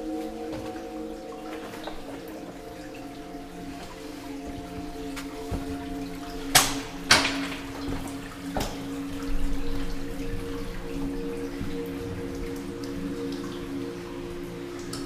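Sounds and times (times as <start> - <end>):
droning background music chords: 0.0 - 15.0.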